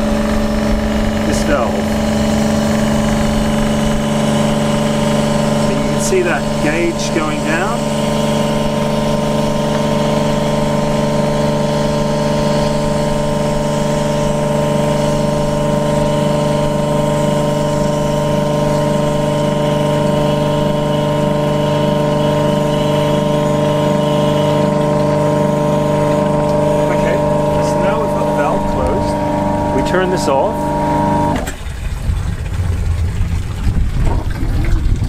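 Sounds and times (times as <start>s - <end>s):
pump motor humming: 0.0s - 35.0s.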